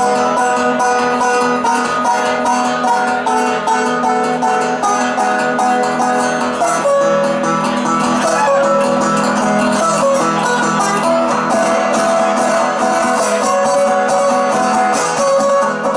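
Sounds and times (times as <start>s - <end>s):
solo guitar playing: 0.0s - 15.9s.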